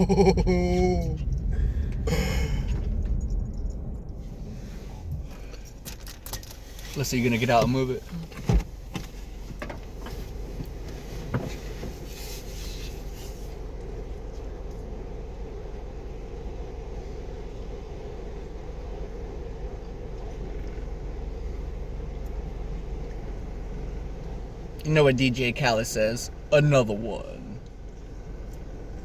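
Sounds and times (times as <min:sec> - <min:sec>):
engine idling hum: 0:00.0 - 0:29.0.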